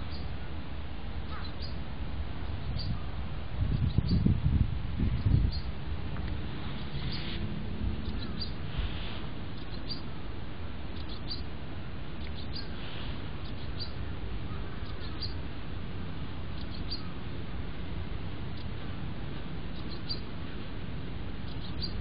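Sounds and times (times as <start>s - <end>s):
small birds chirping: 0.0s - 0.6s, 1.2s - 10.2s, 10.8s - 17.5s, 18.3s - 20.7s, 21.4s - 22.0s
steady low rumble: 0.0s - 22.0s.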